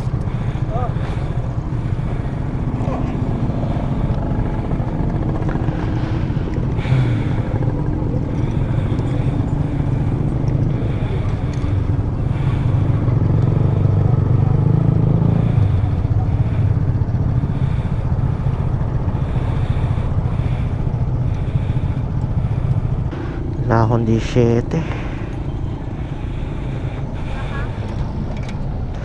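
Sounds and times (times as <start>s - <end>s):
motorcycle engine running: 0.0s - 29.0s
road and wind noise: 0.0s - 29.0s.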